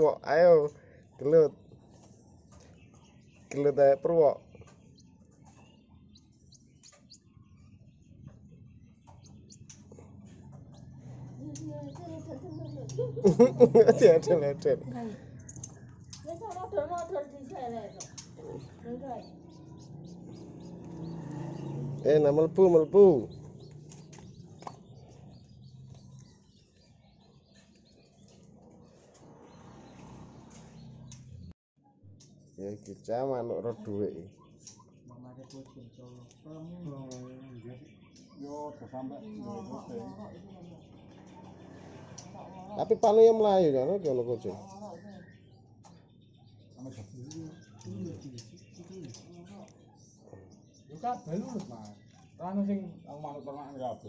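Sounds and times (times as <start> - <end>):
high songbird chirps: 0.0 - 54.0.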